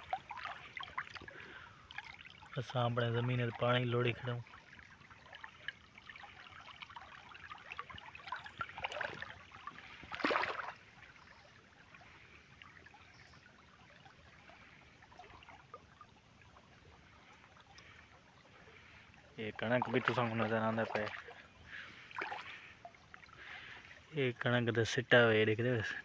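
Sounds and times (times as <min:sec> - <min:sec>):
water flowing in a channel: 0:00.0 - 0:26.0.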